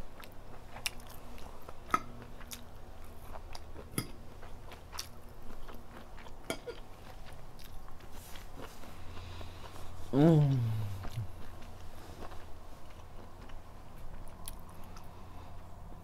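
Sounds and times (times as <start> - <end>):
person chewing: 0.1 - 15.7.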